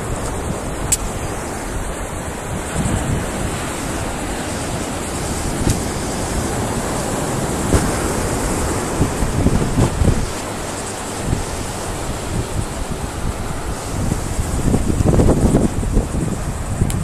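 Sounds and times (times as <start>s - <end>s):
surf breaking on beach: 0.0s - 17.0s
wind on microphone: 0.0s - 17.0s.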